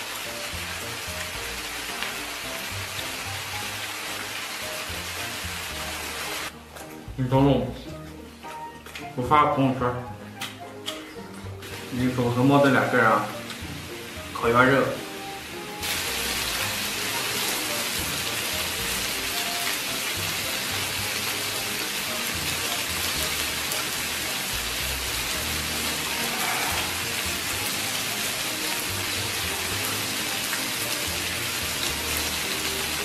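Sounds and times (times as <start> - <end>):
meat sizzling on a grill: 0.0 - 6.6, 11.6 - 33.0.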